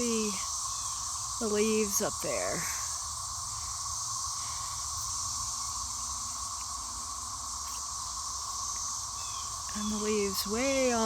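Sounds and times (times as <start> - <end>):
cicadas droning buzz: 0.0 - 11.0
high hiss: 0.0 - 11.0.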